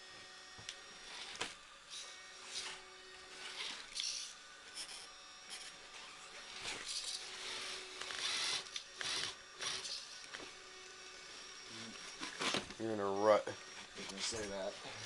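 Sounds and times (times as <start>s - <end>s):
electric motor whirring: 0.0s - 15.0s.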